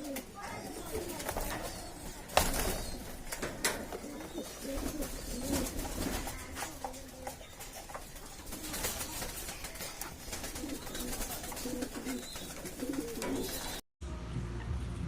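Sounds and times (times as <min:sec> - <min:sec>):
pigeons cooing: 0:00.0 - 0:13.8
clicks and rustling: 0:00.1 - 0:13.8.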